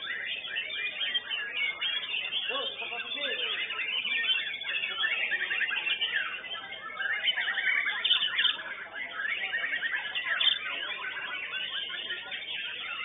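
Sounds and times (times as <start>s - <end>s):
birds whistling and trilling: 0.0s - 13.0s.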